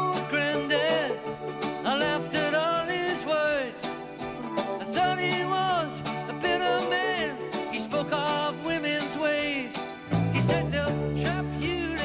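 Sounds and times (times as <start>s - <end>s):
folk-rock band playing: 0.0s - 12.0s
person singing: 0.0s - 12.0s.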